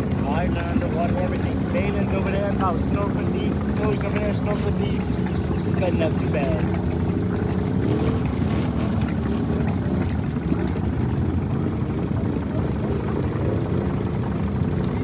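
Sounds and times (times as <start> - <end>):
atv engine running through water: 0.0 - 15.0.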